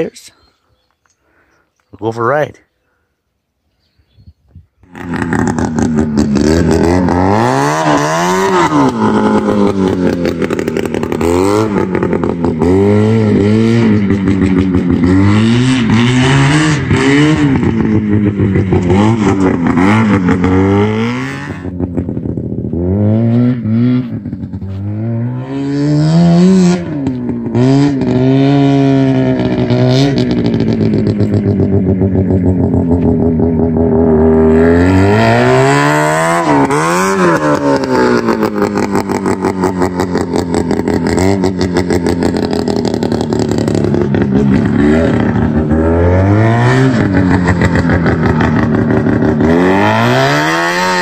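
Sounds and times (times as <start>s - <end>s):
two-stroke golf cart engine revving: 4.8s - 51.0s.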